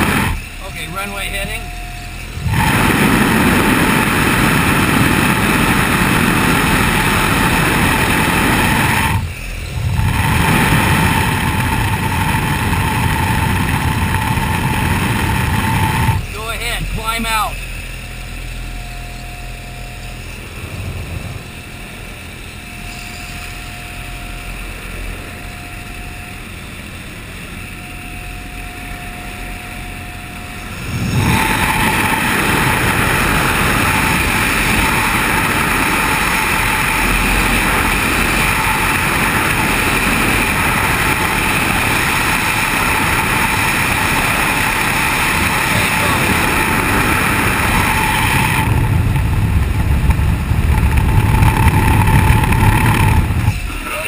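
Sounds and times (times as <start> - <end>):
aircraft engine and propeller drone: 0.0 - 54.0
rushing air: 0.0 - 54.0.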